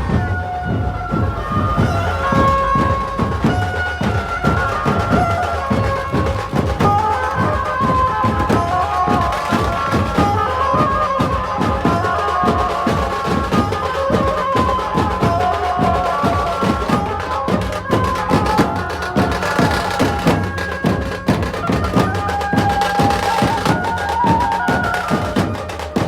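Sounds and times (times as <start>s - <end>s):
fast drum beat: 0.0s - 26.0s.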